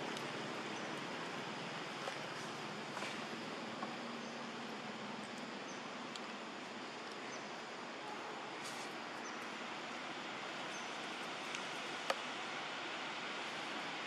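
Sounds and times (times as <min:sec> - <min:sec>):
forest ambience hiss: 0:00.0 - 0:14.0.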